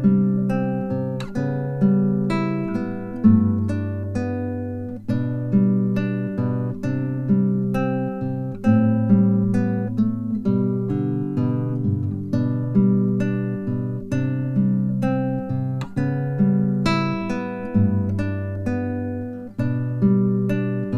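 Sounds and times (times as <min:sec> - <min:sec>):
acoustic guitar music: 0:00.0 - 0:20.9.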